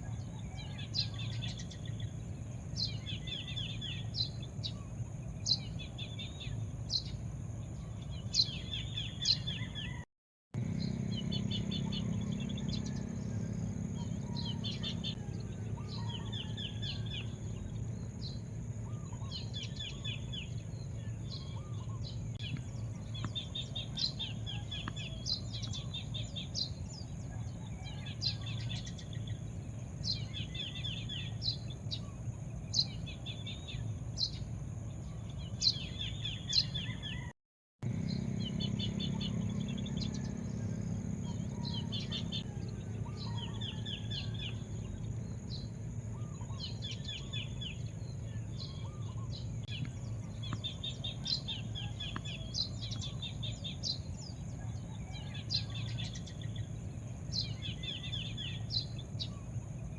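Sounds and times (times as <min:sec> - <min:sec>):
birds chirping and trilling: 0:00.0 - 0:10.0, 0:10.6 - 0:59.9.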